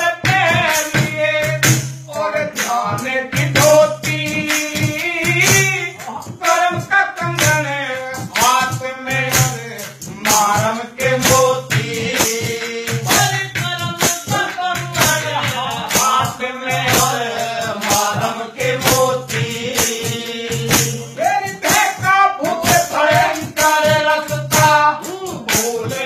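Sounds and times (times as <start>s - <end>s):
man singing folk song: 0.0s - 26.0s
rhythmic percussion strikes: 0.0s - 26.0s.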